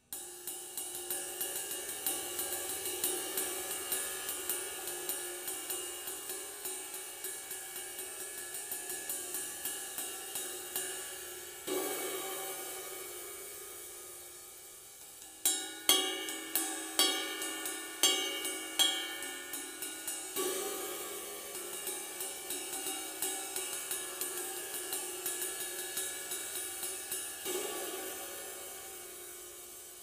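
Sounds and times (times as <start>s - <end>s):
sizzle cymbal struck with stick: 0.0s - 30.0s.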